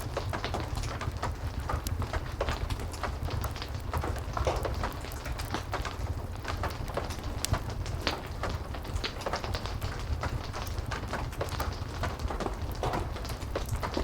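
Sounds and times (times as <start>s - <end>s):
heavy rain falling: 0.0s - 14.0s
wood fire crackling: 0.0s - 14.0s.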